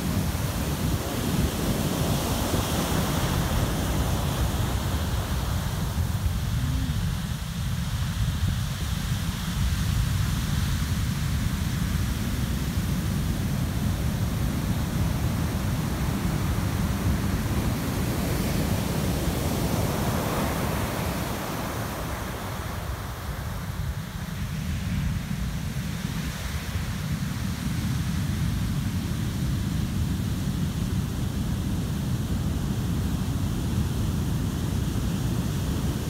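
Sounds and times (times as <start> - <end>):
heavy surf crashing on beach: 0.0 - 36.0.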